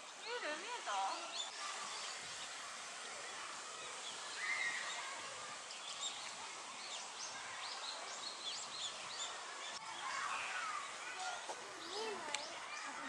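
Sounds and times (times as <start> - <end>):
small birds chirping: 0.0 - 13.0
steady background hiss: 0.0 - 13.0.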